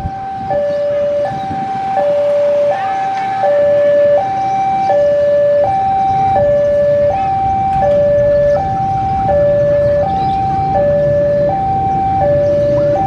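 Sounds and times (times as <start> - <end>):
diesel locomotive engine rumbling: 0.0 - 13.0
two-tone electronic warning alarm: 0.0 - 13.0.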